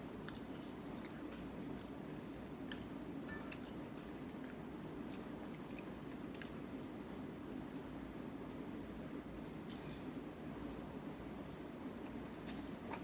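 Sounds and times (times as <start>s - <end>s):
faint eating sounds: 0.0s - 13.0s.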